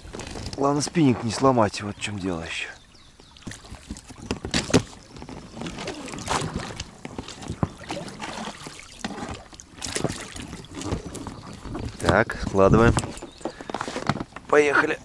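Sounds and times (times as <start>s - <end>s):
boat knocking and scraping: 0.0s - 15.0s
water splashing: 0.0s - 15.0s.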